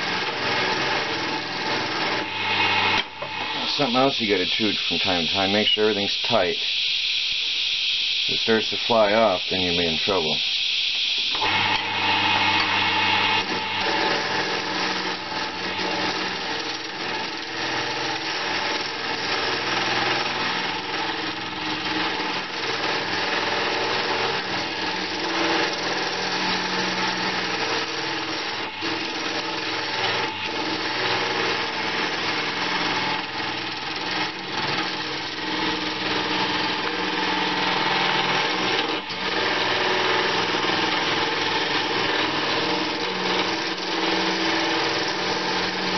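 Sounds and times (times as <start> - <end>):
electric wood lathe running: 0.0 - 45.9.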